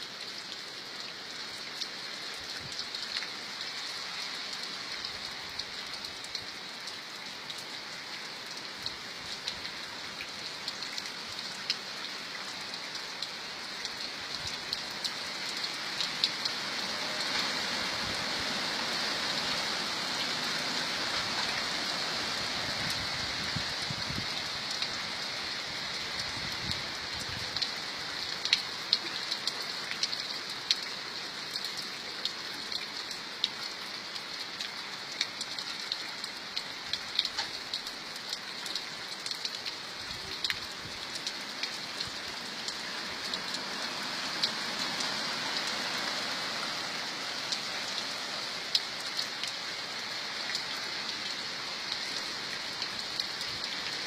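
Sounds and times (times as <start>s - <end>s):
rain hissing: 0.1s - 54.0s
raindrops ticking on a surface: 0.1s - 54.0s.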